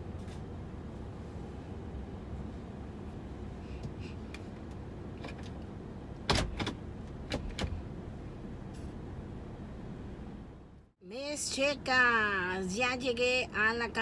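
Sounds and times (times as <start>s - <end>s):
low rumble inside van cabin: 0.0s - 14.0s.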